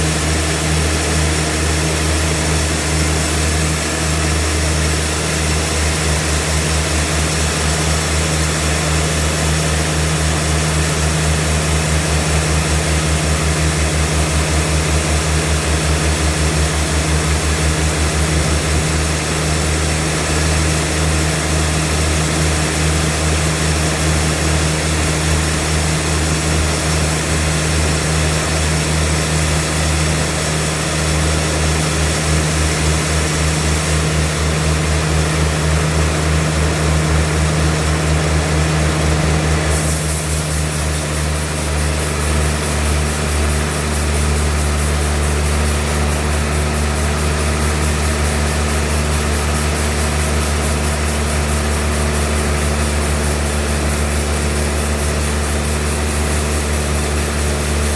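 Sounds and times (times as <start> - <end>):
sawmill machine droning: 0.0 - 57.9.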